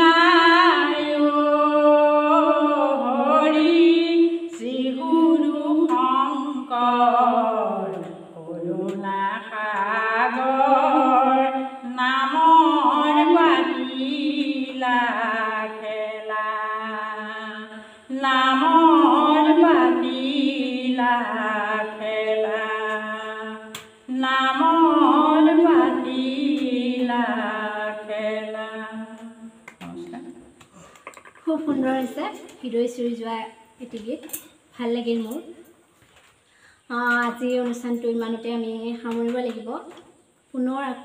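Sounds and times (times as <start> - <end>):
woman singing unaccompanied: 0.0 - 29.6, 31.4 - 35.6, 36.8 - 41.0.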